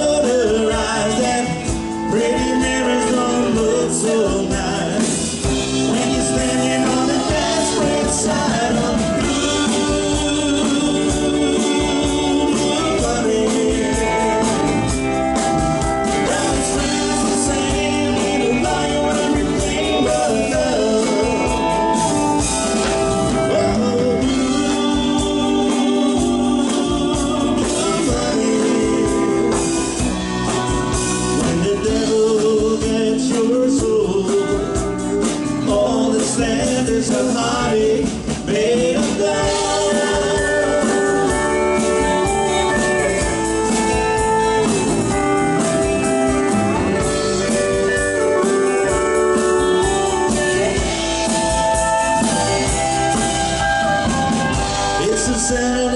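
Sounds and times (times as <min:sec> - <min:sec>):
live country band playing: 0:00.0 - 0:55.9.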